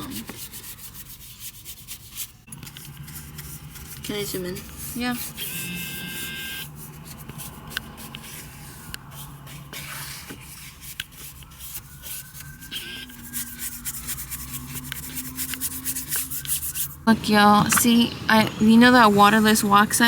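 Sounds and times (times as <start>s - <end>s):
rubbing and scrubbing car surface: 0.0s - 18.0s.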